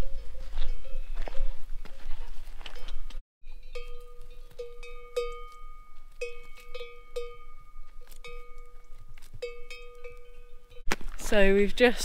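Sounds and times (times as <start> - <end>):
horse bell clanking: 0.0 - 10.9.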